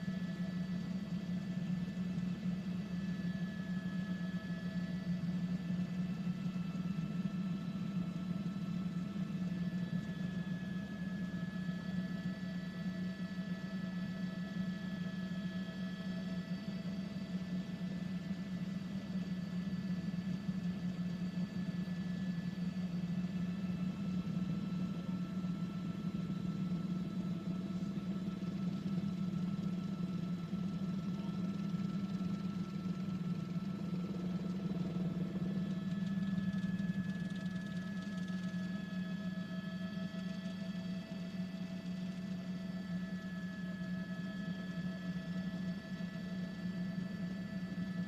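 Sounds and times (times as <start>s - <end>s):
helicopter cabin drone: 0.0s - 48.0s.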